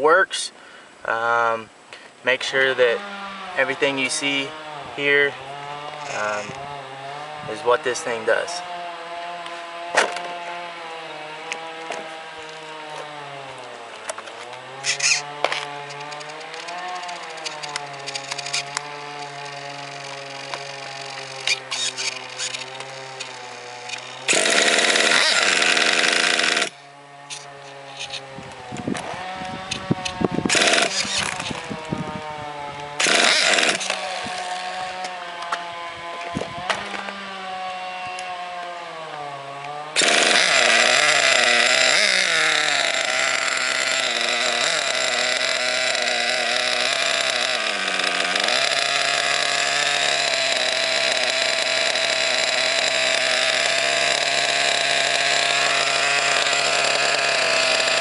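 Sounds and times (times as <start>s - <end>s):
small nitro engine running: 2.6s - 58.0s
electric starter wand bursts: 3.0s - 35.7s, 40.0s - 58.0s.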